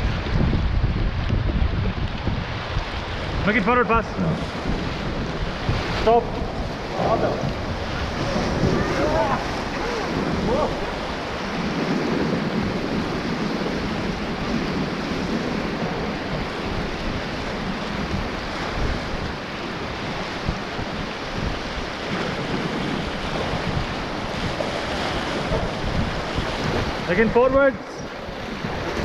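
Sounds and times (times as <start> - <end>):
river water rushing and splashing: 0.0 - 29.0
wind buffeting microphone: 0.0 - 29.0.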